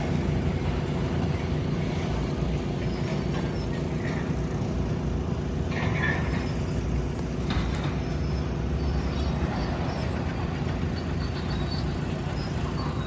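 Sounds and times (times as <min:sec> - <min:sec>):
heavy diesel engine rumbling: 0:00.0 - 0:13.0.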